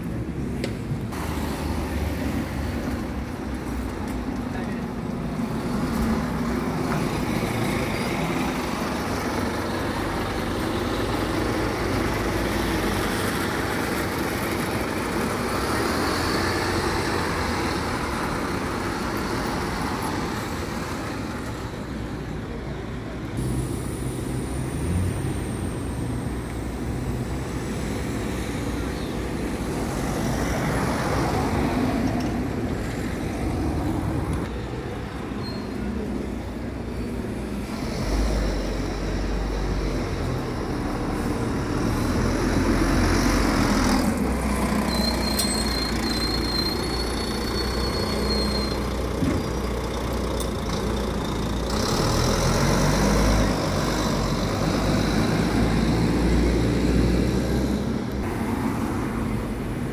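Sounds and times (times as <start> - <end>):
bus driving past: 0.0 - 59.9
road traffic rumble: 0.0 - 59.9.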